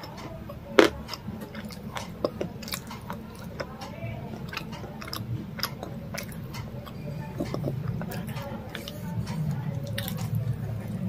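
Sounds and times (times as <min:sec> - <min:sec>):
crunchy chewing: 0:00.0 - 0:11.0
steady low hum: 0:00.0 - 0:11.0.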